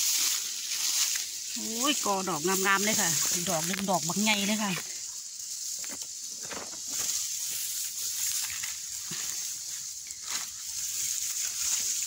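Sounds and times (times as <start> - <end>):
grass and dry leaves rustling: 0.0 - 12.0
steady high hiss: 0.0 - 12.0.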